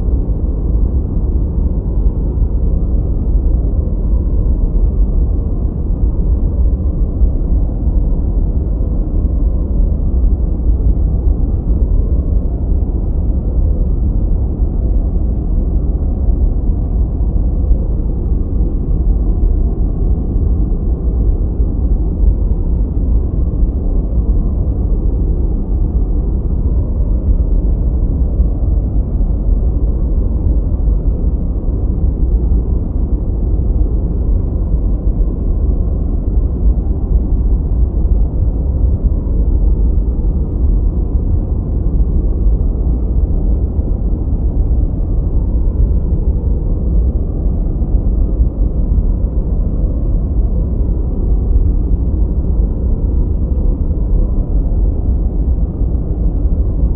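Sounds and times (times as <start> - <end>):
deep white noise rush: 0.0 - 56.9.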